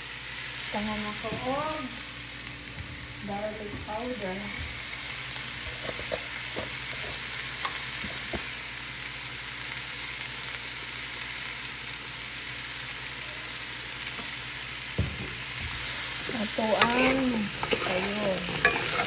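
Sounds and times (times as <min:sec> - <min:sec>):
squash sizzling in oil: 0:00.0 - 0:19.0.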